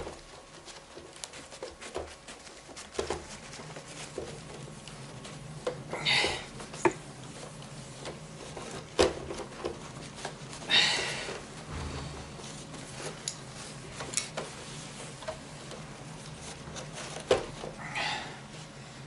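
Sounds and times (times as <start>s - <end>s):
paper towel rubbing plastic: 0.0s - 19.0s.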